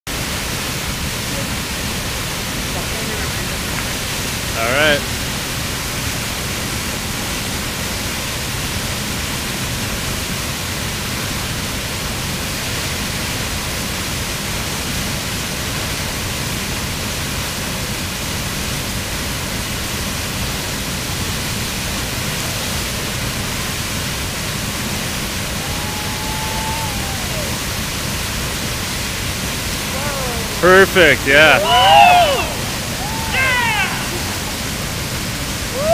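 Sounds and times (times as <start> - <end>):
waterfall rushing: 0.1 - 35.9.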